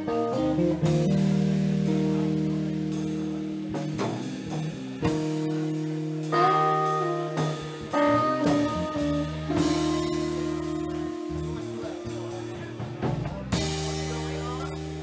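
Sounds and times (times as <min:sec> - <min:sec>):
bending guitar notes: 0:00.0 - 0:15.0
live rock band playing: 0:00.0 - 0:15.0.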